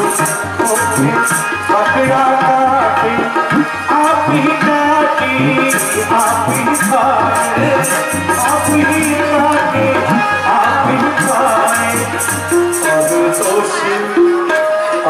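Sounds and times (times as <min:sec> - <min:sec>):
rattling hand percussion: 0:00.0 - 0:14.0
harmonium: 0:00.0 - 0:15.0
man singing: 0:00.0 - 0:15.0
tabla: 0:00.0 - 0:15.0.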